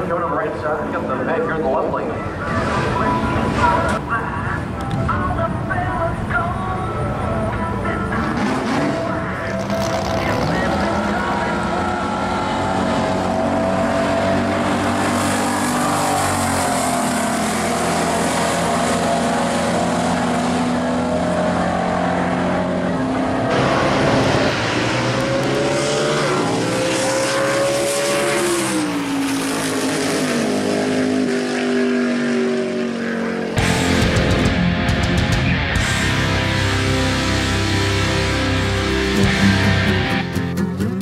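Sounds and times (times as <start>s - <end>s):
car engine at full throttle: 0.0s - 41.0s.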